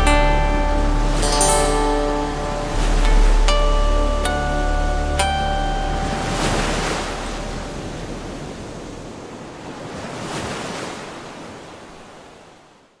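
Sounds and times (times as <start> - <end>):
ocean surf washing in: 0.0 - 12.9.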